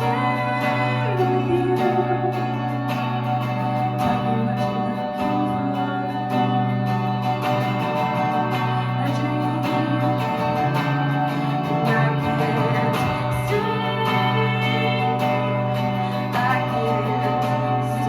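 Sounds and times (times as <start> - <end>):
guitar chords: 0.0 - 18.0
woman singing: 0.0 - 18.0.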